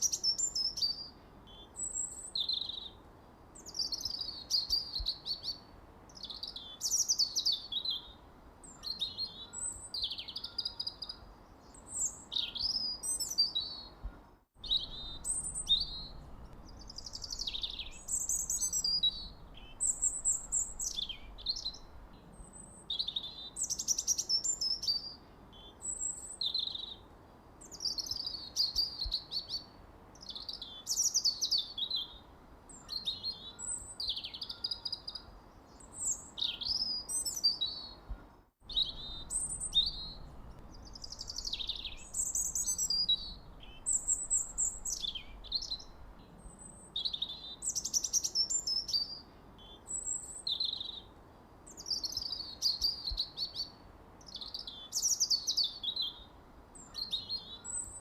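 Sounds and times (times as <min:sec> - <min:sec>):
faint steady hiss: 0:00.0 - 0:58.0
songbirds chirping and singing: 0:03.6 - 0:58.0.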